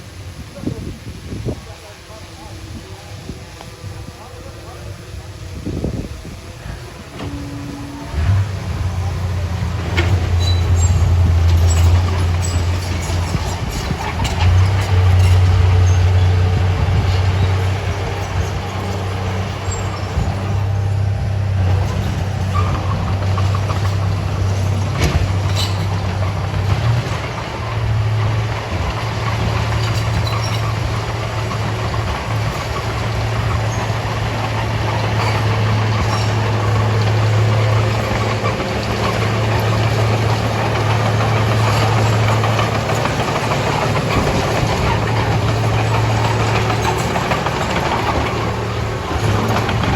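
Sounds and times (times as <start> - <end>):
diesel earthmoving machinery running: 0.0 - 49.9.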